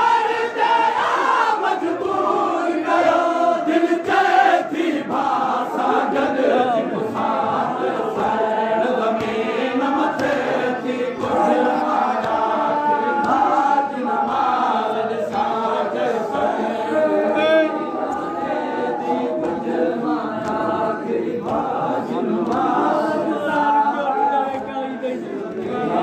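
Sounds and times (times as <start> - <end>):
crowd of men chanting: 0.0 - 26.0.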